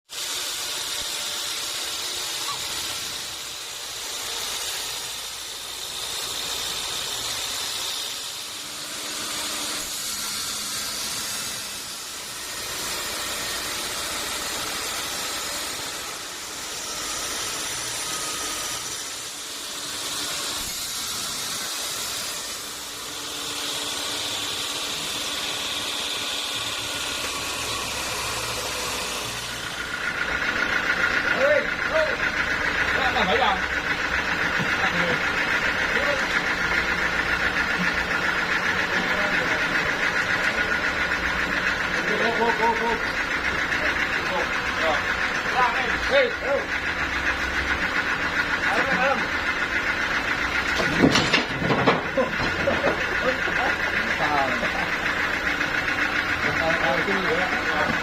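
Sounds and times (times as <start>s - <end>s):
saw hissing through log: 0.0s - 50.8s, 52.1s - 58.0s
machine hum: 0.2s - 58.0s.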